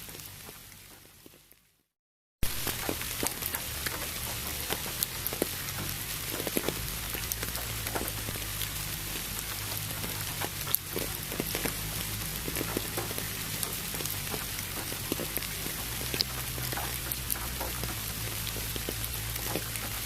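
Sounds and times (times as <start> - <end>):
rain hiss: 0.0 - 1.6, 2.4 - 20.0
raindrops ticking on a surface: 0.0 - 20.0
low steady hum: 2.4 - 20.0.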